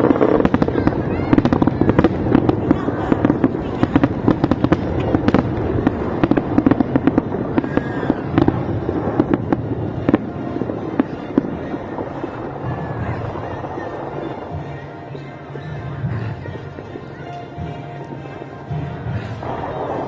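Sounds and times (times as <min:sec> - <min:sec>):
continuous rumble: 0:00.0 - 0:20.0
fireworks bangs and crackling: 0:00.0 - 0:20.0.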